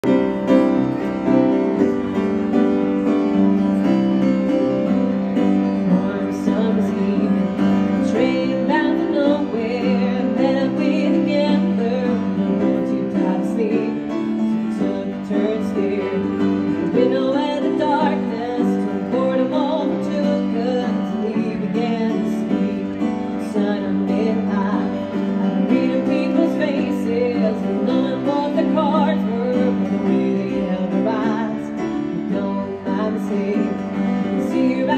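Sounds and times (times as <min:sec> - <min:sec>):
grand piano: 0:00.0 - 0:34.9
woman singing: 0:05.4 - 0:34.9.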